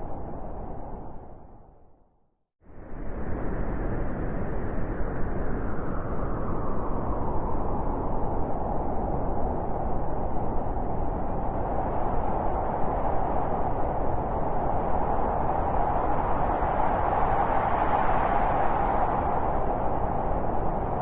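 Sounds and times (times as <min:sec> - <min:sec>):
wind blowing: 0:02.8 - 0:21.0.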